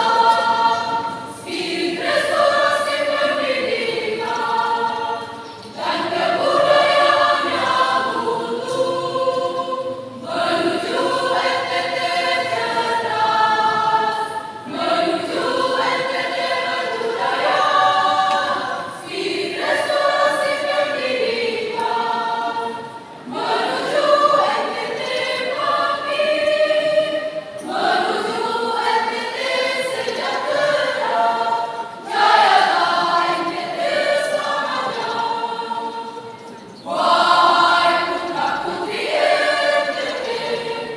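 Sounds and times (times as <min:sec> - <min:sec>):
choir singing in parts: 0:00.0 - 0:40.9.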